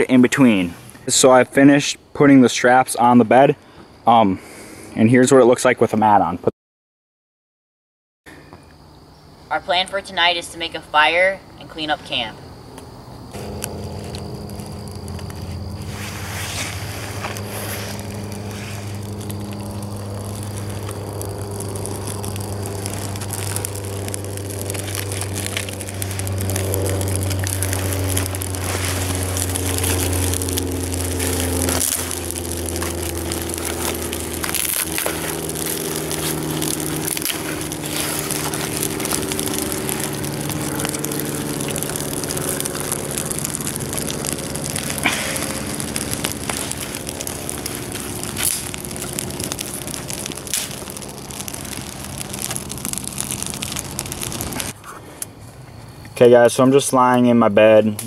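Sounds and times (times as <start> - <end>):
campfire crackling and popping: 0.0 - 3.4, 11.6 - 58.0.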